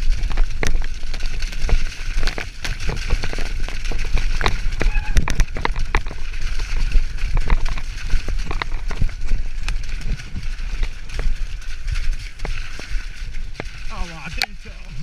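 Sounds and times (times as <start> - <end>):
bike tyres and frame clattering: 0.0 - 15.0
wind rumbling on microphone: 0.0 - 15.0.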